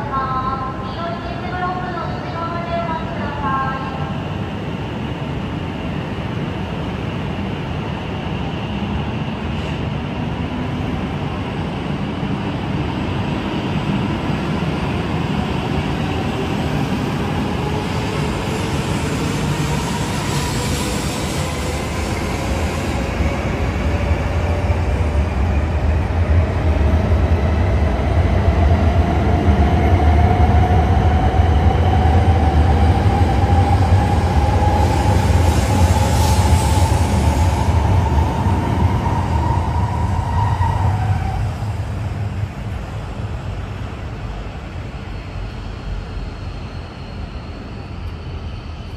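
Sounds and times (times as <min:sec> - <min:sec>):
train rolling rumble: 0:00.0 - 0:48.9.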